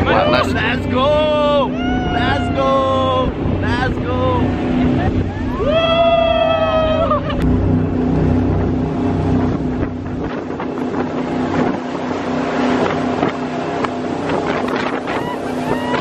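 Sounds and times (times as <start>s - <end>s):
boat engine running: 0.0s - 16.0s
wind buffeting microphone: 0.0s - 16.0s.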